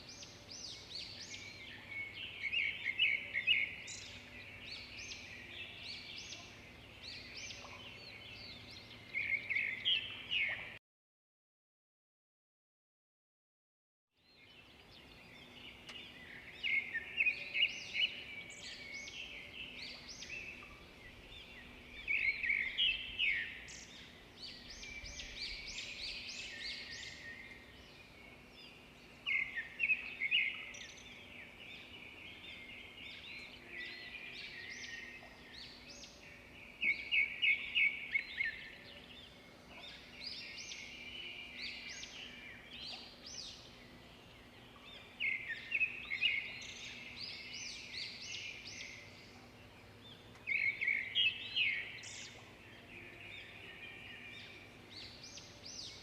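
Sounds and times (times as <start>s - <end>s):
birds twittering: 0.0s - 10.8s, 14.3s - 56.0s
songbirds trilled chirps: 0.0s - 10.8s, 14.2s - 56.0s.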